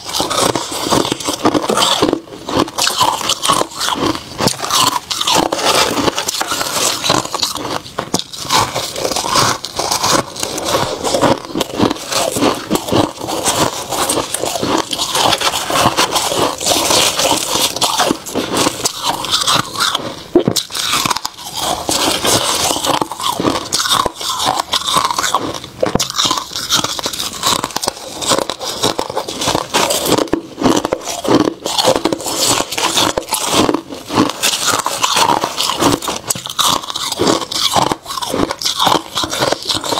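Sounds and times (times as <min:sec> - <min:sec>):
frost crunching when chewed: 0:00.0 - 0:39.9.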